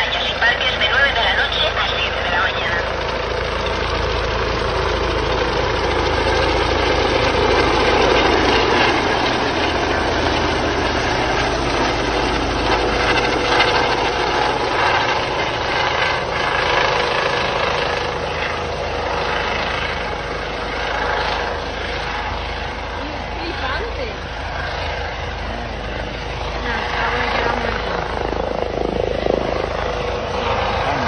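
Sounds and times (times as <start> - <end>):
helicopter flying overhead: 0.0 - 31.0.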